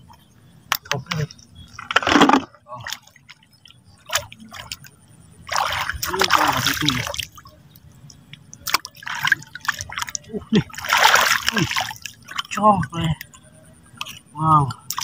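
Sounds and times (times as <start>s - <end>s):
water splashing and dripping: 0.1s - 15.0s.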